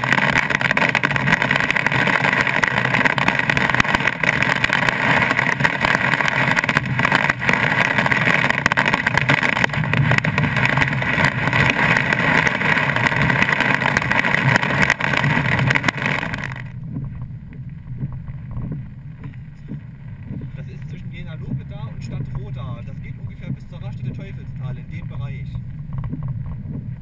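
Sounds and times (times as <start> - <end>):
low rumble of car driving: 0.0 - 27.0
rain and hail on car roof: 0.0 - 27.0.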